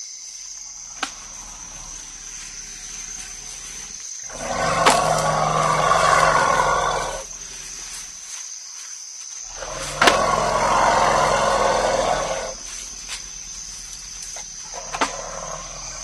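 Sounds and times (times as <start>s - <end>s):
elephant roaring: 0.7s - 8.1s, 9.5s - 16.0s.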